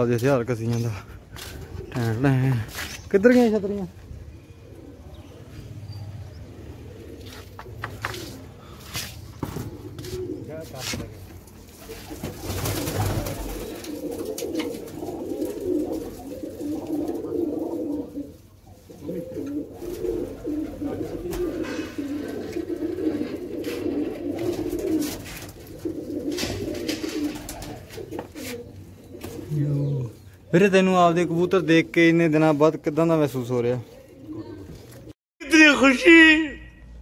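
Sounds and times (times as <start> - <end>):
pigeons cooing: 0.7 - 32.2, 33.7 - 35.1.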